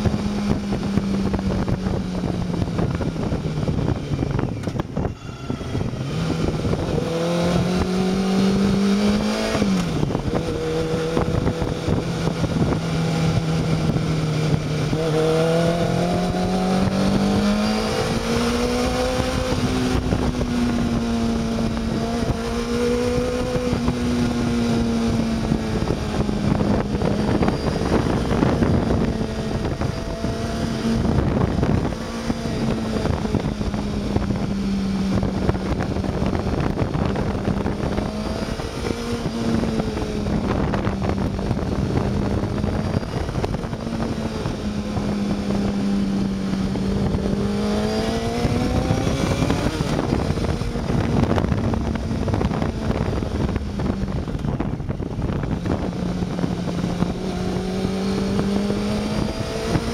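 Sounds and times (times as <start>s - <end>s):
motorcycle engine running: 0.0s - 59.9s
wind rush over microphone: 0.0s - 59.9s.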